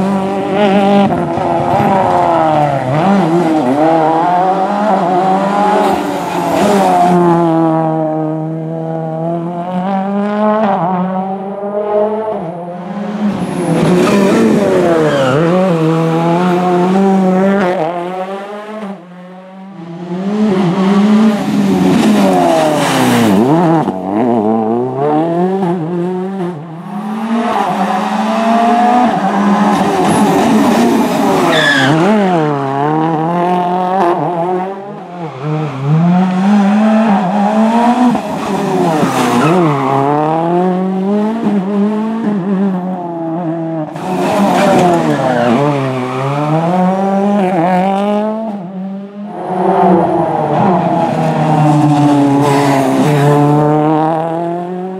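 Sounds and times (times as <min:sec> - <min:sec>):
rally car engine revving: 0:00.0 - 0:54.9.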